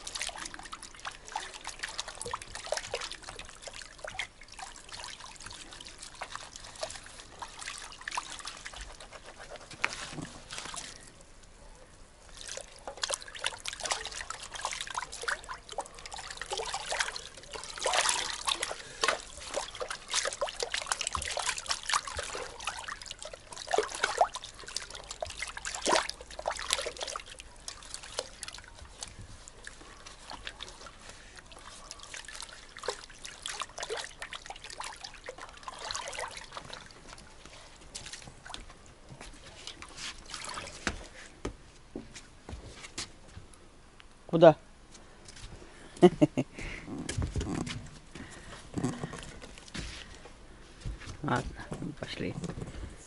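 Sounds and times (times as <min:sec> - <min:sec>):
water sloshing in plastic basin: 0:00.0 - 0:11.3, 0:12.3 - 0:43.2, 0:47.1 - 0:53.0.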